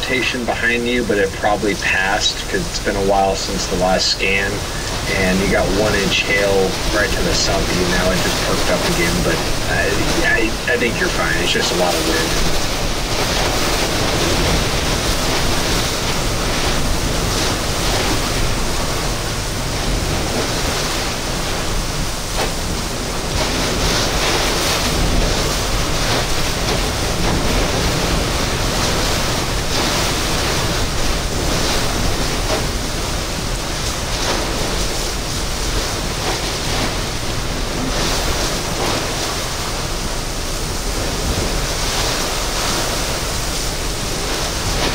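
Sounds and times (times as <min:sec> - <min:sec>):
heavy rain beating on a vehicle: 0:00.0 - 0:44.9
strong gusting wind: 0:00.0 - 0:44.9.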